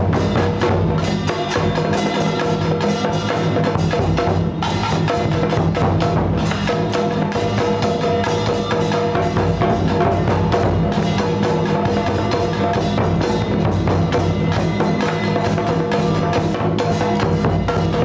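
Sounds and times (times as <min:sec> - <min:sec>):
ceremonial percussion music: 0:00.0 - 0:18.0.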